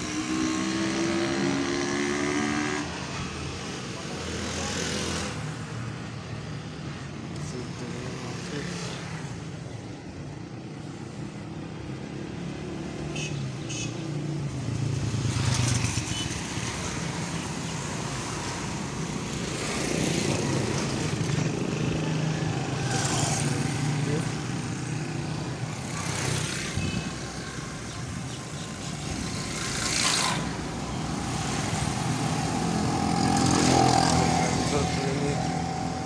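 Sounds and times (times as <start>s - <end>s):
motorcycles and cars passing: 0.0s - 36.0s.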